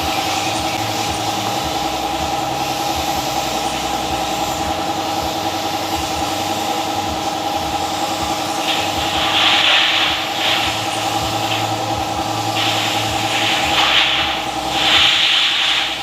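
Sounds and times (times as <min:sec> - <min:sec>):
hissing bursts: 0:00.0 - 0:16.0
motor running steadily: 0:00.0 - 0:16.0.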